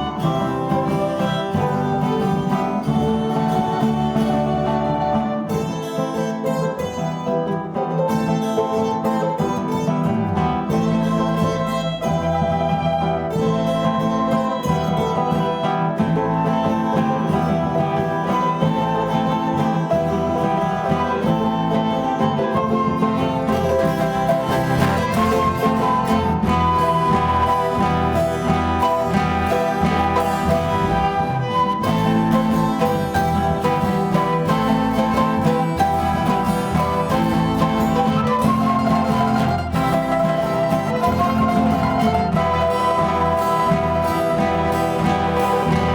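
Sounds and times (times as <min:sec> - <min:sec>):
plucked string ensemble music: 0:00.0 - 0:45.9.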